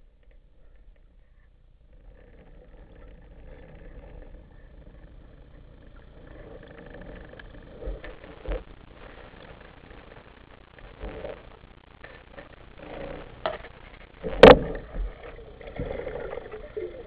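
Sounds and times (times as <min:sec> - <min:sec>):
faint clicks and crackles: 0:00.0 - 0:17.0
underwater rumble: 0:00.0 - 0:17.0.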